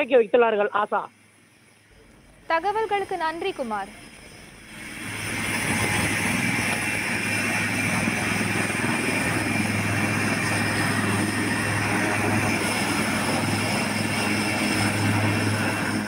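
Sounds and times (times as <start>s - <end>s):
helicopter rotor and engine: 0.0s - 16.0s
thin high whine: 0.0s - 16.0s.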